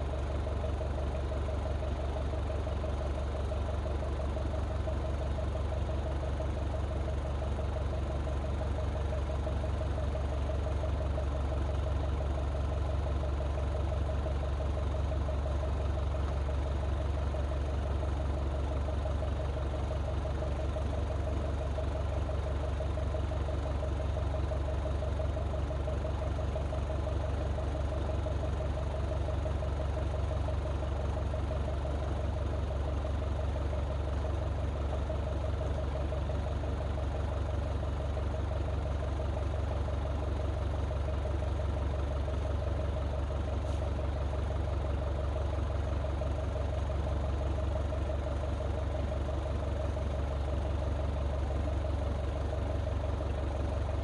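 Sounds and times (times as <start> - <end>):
loader engine idling: 0.0 - 54.0.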